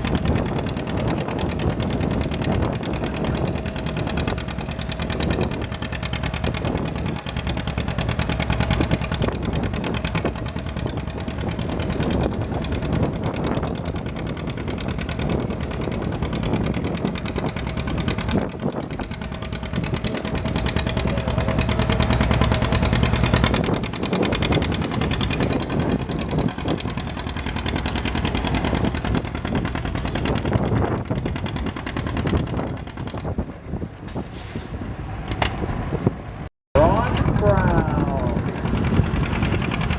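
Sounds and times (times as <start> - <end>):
tractor engine running hard: 0.0 - 39.9.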